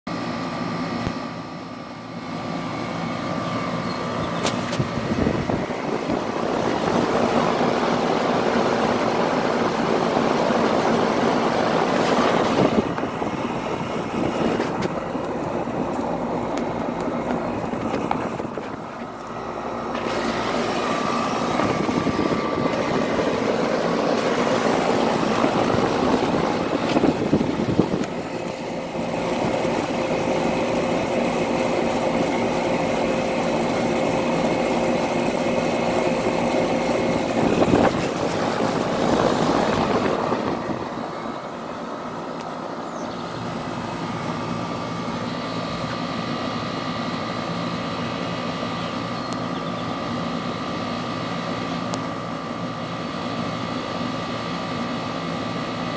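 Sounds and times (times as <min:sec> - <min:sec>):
air conditioner fan rushing air: 0:00.1 - 0:55.9
steady hum: 0:00.1 - 0:55.9.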